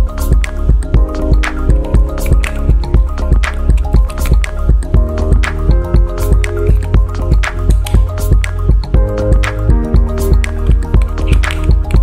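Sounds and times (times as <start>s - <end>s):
music with steady beat and deep bass: 0.0s - 12.0s.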